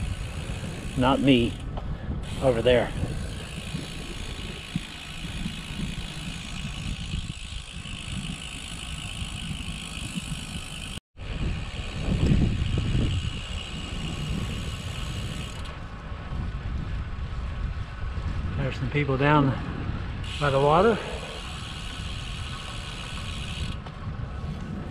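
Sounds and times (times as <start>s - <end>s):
tyre and wind rumble: 0.0s - 24.9s.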